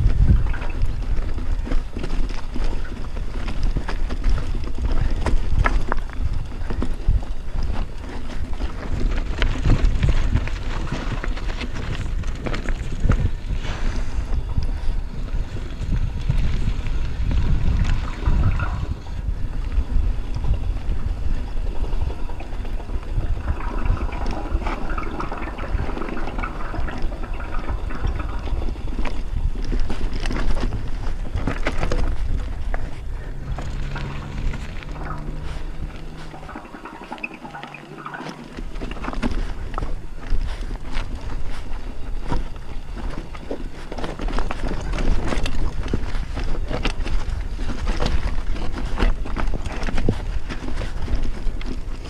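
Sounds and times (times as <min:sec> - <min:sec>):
bike rattling: 0:00.0 - 0:52.0
tyres rolling over loose stones: 0:00.0 - 0:52.0
wind buffeting microphone: 0:00.0 - 0:52.0.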